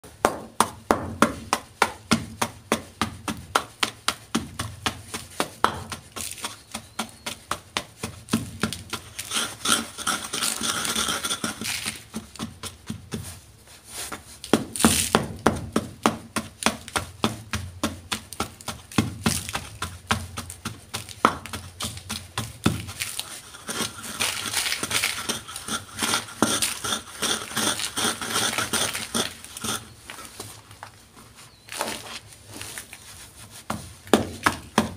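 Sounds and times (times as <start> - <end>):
pestle pounding in a mortar: 0.1 - 13.3, 14.5 - 30.1, 33.7 - 34.9
chalk crunching and grinding: 3.3 - 34.9.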